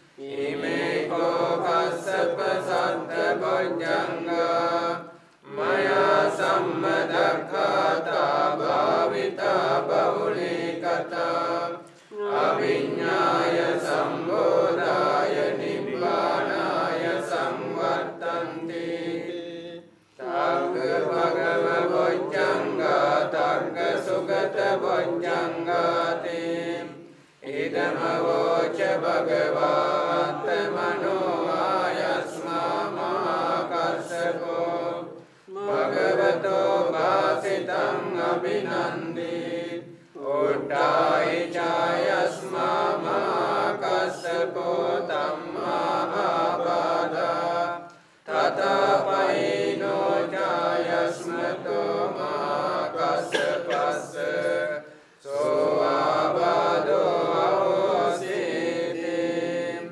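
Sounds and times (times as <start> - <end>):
group chanting in unison: 0.0 - 59.9.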